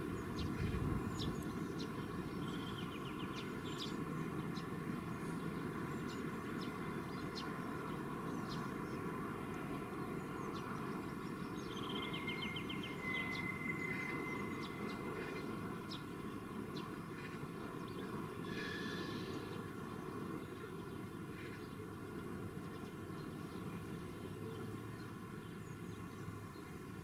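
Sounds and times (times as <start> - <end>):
songbirds chirping and singing: 0.0 - 26.9
distant city traffic hum: 0.0 - 27.0.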